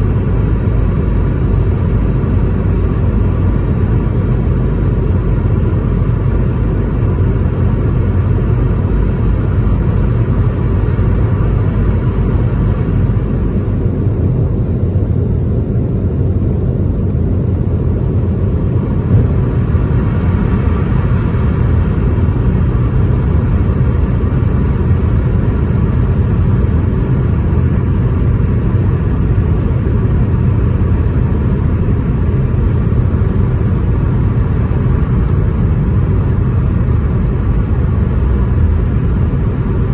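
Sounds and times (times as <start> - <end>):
airliner engine rumble: 0.0 - 39.9
faint whine: 0.0 - 39.9.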